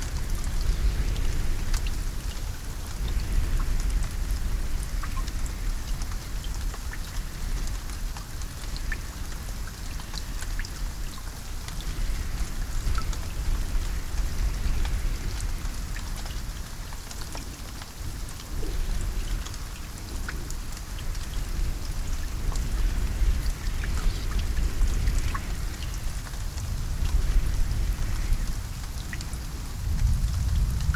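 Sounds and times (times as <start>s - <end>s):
rain drops ticking on a surface: 0.0s - 30.9s.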